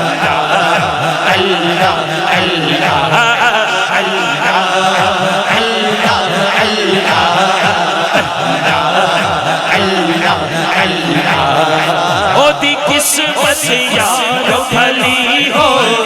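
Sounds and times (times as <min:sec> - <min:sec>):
low rhythmic pulse: 0:00.0 - 0:15.8
voices chanting: 0:00.0 - 0:16.0.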